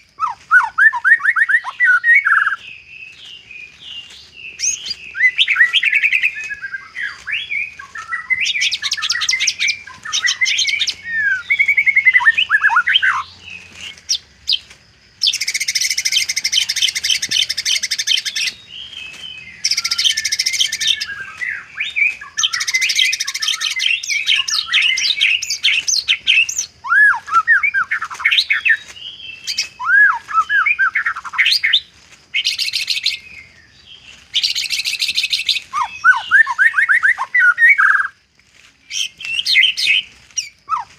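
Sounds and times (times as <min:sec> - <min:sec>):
bird singing whistled song: 0:00.0 - 0:38.2, 0:38.8 - 0:40.9.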